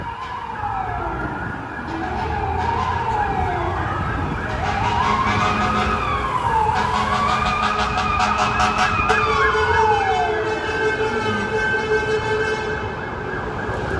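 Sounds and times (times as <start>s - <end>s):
emergency sirens wailing: 0.0s - 13.9s
heavy vehicles rumbling: 0.0s - 13.9s.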